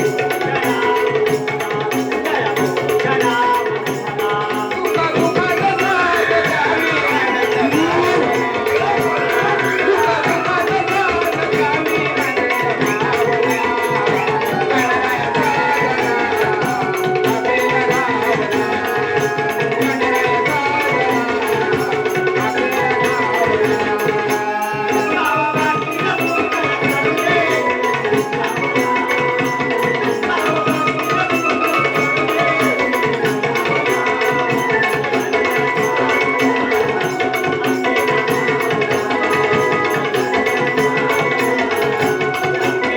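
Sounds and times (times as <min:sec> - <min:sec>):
hand drum and percussion: 0:00.0 - 0:42.9
person singing devotional song: 0:00.0 - 0:42.9.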